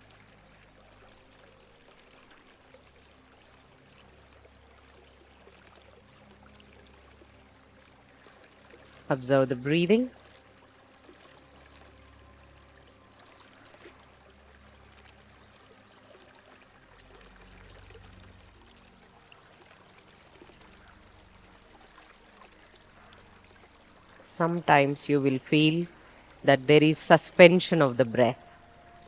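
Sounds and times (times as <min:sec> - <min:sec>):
stream trickling over stones: 0:00.0 - 0:29.0.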